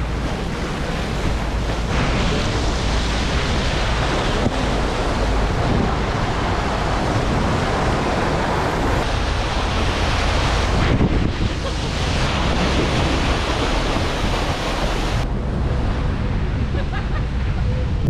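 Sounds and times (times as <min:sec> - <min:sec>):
water rushing past a boat: 0:00.0 - 0:18.0
wind blowing over microphone: 0:00.0 - 0:18.0.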